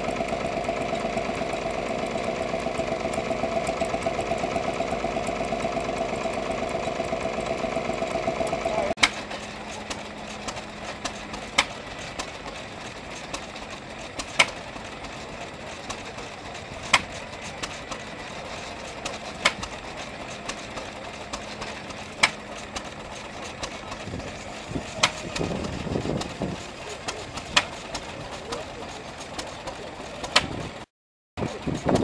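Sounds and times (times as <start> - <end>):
other machinery running: 0.0 - 32.0.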